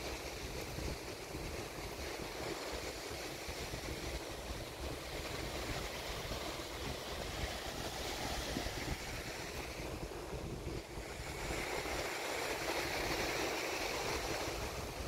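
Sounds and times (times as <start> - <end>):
small waves washing onto beach: 0.0 - 15.0
wind buffeting microphone: 0.0 - 15.0.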